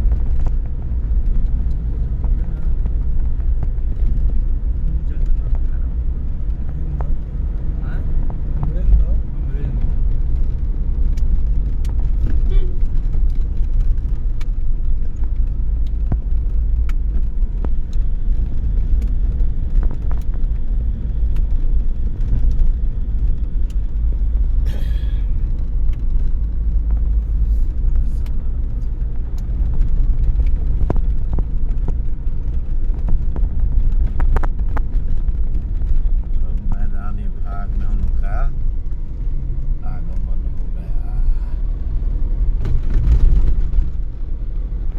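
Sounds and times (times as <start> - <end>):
car engine and tyres rumble: 0.0 - 44.9.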